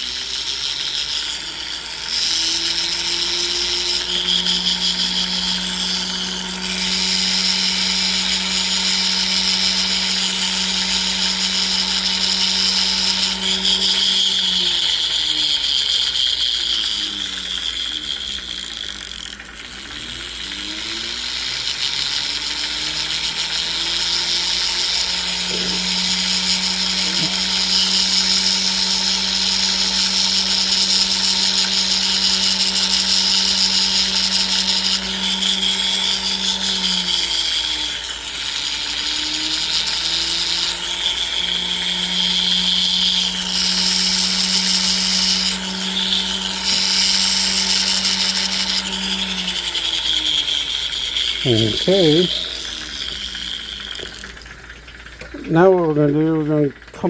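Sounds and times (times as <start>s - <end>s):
abrasive wheel grinding metal: 0.0s - 57.0s
rotary tool motor whine: 0.0s - 57.0s.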